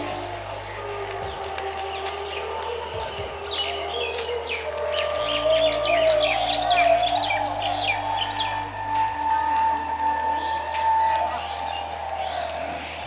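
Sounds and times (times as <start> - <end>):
small birds chirping: 0.0 - 13.0
steady high whine: 0.0 - 13.0.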